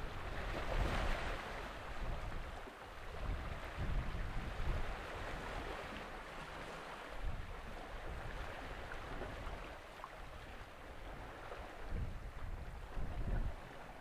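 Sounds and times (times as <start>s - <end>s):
wind buffeting microphone: 0.0s - 6.0s, 7.2s - 9.7s, 10.4s - 14.0s.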